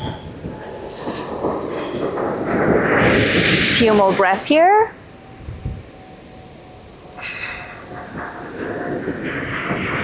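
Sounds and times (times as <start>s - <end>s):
ocean surf rumbling: 0.0s - 10.0s.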